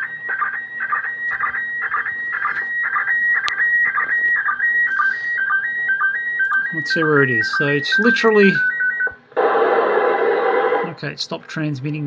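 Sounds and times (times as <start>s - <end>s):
warbling electronic radio tones: 0.0s - 11.1s.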